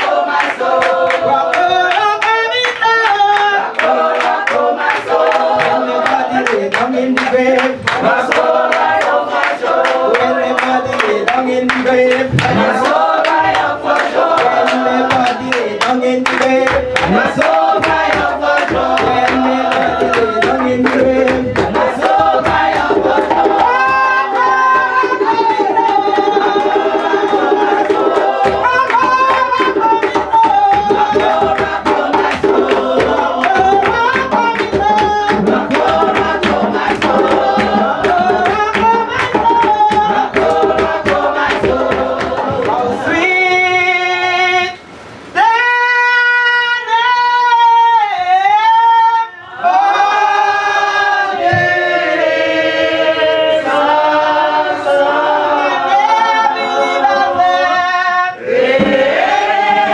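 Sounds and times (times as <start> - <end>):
rhythmic hand clapping: 0.0 - 43.3, 49.7 - 59.9
congregation singing: 0.0 - 59.9.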